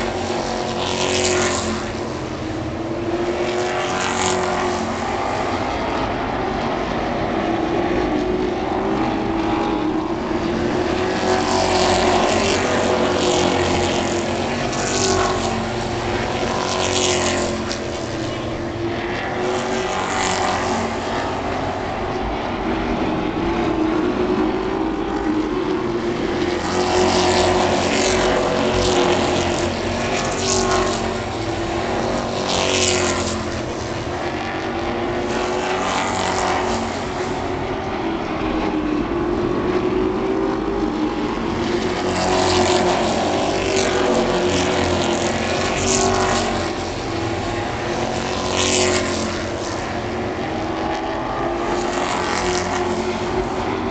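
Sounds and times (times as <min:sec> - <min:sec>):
race truck engines passing by: 0:00.0 - 0:53.9.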